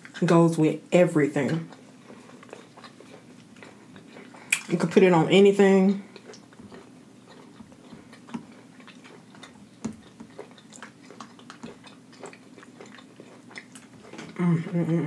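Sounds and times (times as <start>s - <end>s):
mouth-closed chewing: 1.4s - 5.0s, 5.9s - 15.0s.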